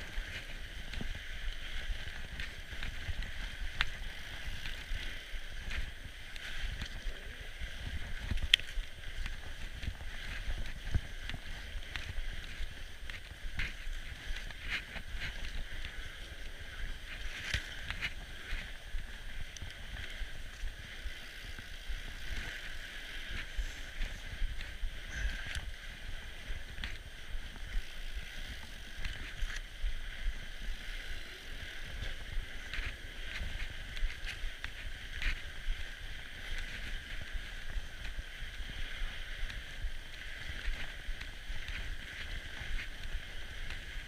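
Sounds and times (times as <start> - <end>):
bike clicks and rattles: 0.0 - 31.2, 31.9 - 44.0
bike tyres crunching on snow: 0.0 - 44.0
low wind rumble on mic: 0.0 - 44.0.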